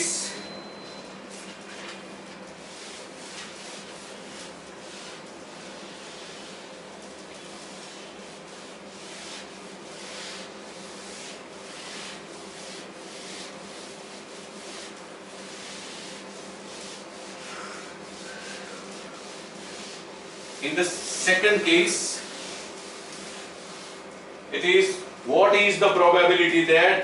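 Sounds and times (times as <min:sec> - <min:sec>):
duster wiping whiteboard: 0:01.2 - 0:25.1.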